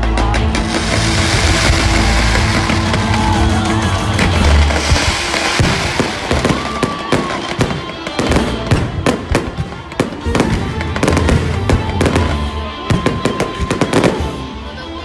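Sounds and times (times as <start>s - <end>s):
fireworks bangs and crackles: 0.0s - 14.6s
music playing: 0.0s - 15.0s.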